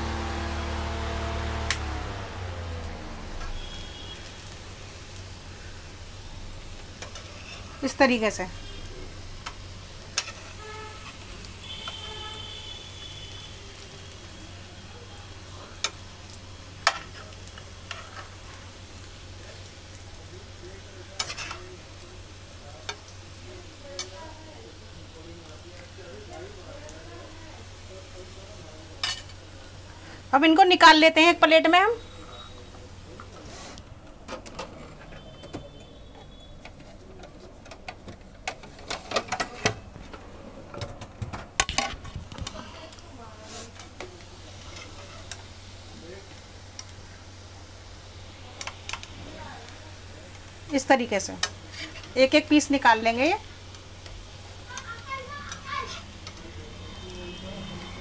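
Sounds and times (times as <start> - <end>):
food sizzling in oil: 0.0 - 33.8, 42.2 - 58.0.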